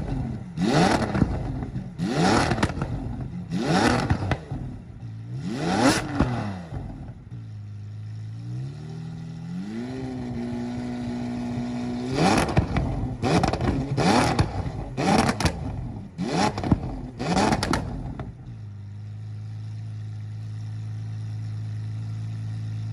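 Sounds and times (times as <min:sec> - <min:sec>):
car engine revving: 0:00.0 - 0:18.6
car engine idling: 0:00.0 - 0:22.9.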